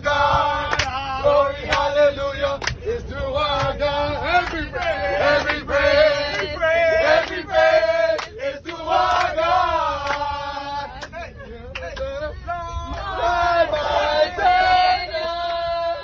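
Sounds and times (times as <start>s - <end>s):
group singing chanted song: 0.0s - 16.0s.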